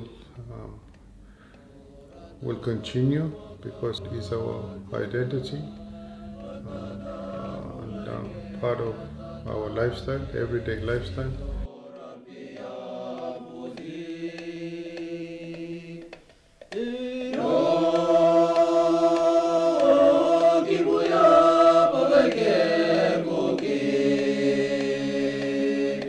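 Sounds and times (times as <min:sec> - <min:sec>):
voices singing held notes: 0:00.0 - 0:26.0.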